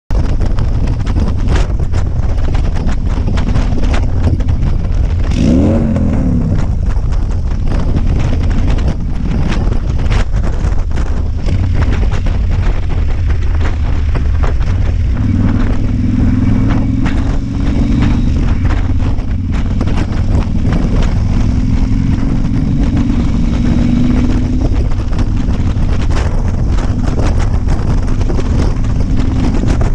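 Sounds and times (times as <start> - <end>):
motorcycle engine running: 0.1 - 29.9
wind buffeting on microphone: 0.1 - 29.9.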